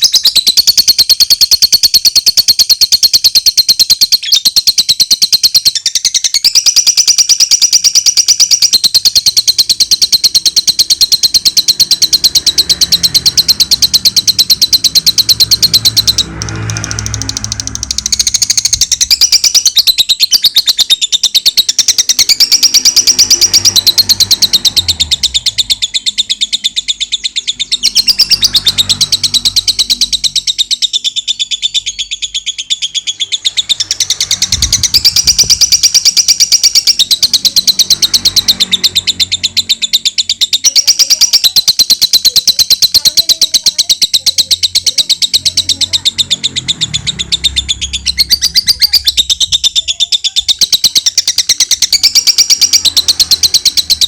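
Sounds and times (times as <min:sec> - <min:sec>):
bird rapid high chirping: 0:00.0 - 0:54.0.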